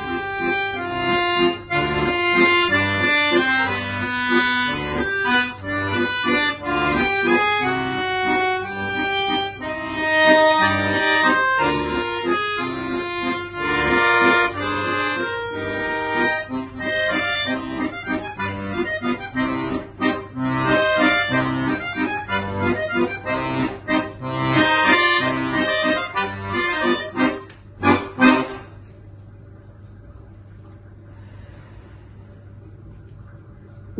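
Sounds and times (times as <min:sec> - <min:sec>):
solo instrumental piece: 0:00.0 - 0:28.8.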